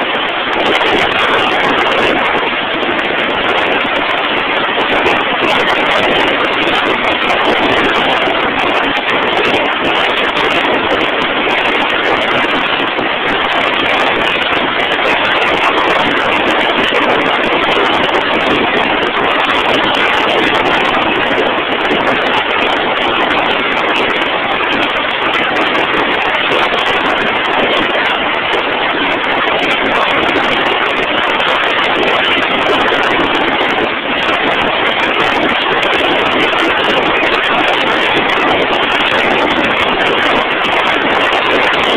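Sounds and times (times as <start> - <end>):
heavy machinery running: 0.0 - 41.9.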